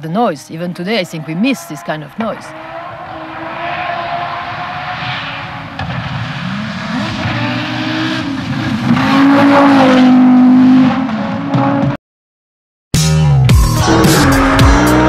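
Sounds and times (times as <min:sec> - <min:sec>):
rally car engine revving: 0:01.2 - 0:12.0, 0:13.5 - 0:15.0.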